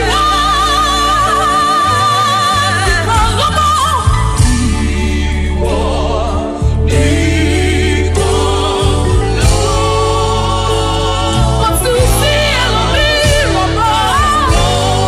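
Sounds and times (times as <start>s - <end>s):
deep bass accompaniment: 0.0s - 15.0s
voices singing gospel: 0.0s - 15.0s.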